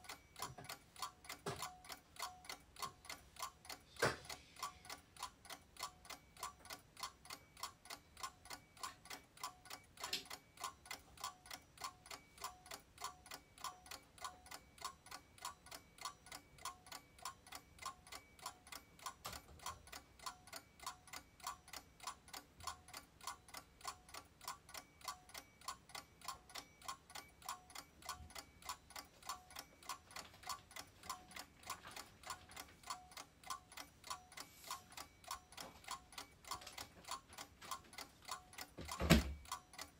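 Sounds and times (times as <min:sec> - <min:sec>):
timer ticking: 0:00.0 - 0:39.9.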